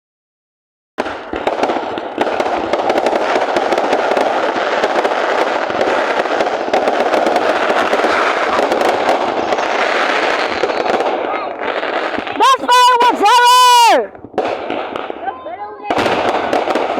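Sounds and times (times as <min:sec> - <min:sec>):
fireworks crackling and popping: 0:01.0 - 0:16.9.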